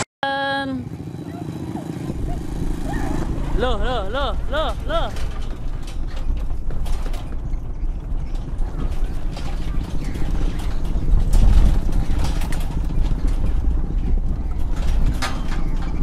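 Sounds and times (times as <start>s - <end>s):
truck engines running: 0.3s - 16.0s
rattling and clicking: 1.4s - 16.0s.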